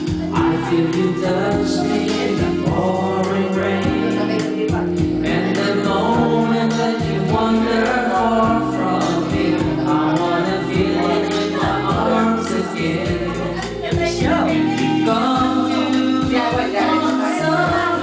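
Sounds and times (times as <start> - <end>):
music with singing voices: 0.0 - 18.0.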